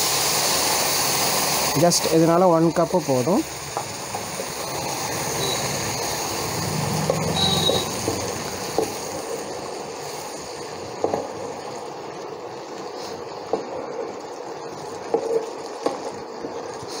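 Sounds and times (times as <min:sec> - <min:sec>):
hot pan hissing: 0:00.0 - 0:17.0.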